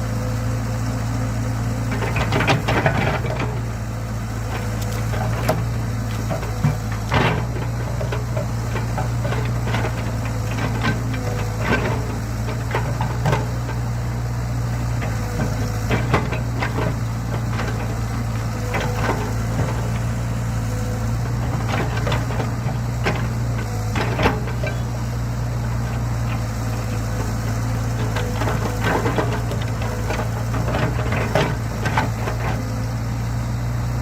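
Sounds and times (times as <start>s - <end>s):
diesel excavator engine running: 0.0s - 34.0s
knocks and cracks of digging: 4.4s - 14.1s, 14.8s - 32.8s.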